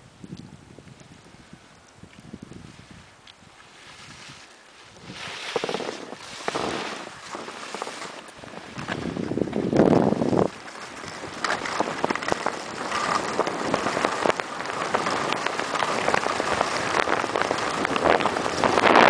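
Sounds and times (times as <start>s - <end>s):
wind rushing over microphone: 0.0s - 19.0s
skis scraping over snow: 2.6s - 19.0s.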